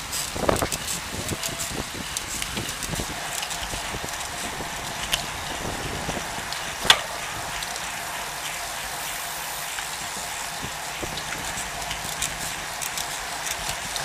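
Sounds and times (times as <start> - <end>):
wind and tyre hiss: 0.0 - 14.0.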